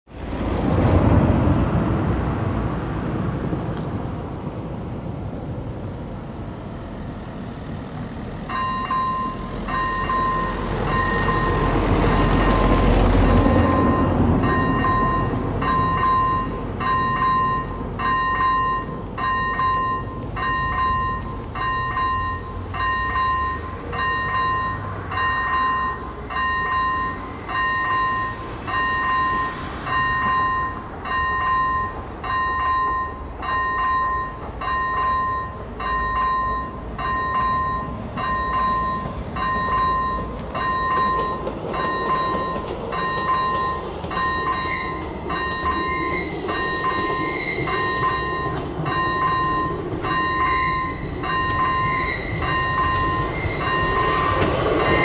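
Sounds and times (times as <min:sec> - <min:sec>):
electronic crossing bell dinging: 0:08.5 - 0:12.8, 0:13.6 - 0:55.0.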